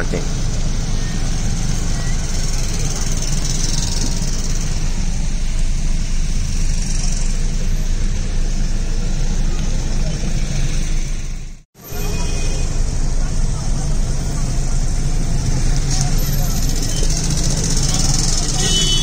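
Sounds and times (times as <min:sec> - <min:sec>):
car engine low rumble: 0:00.0 - 0:19.0
road traffic hiss: 0:00.0 - 0:19.0.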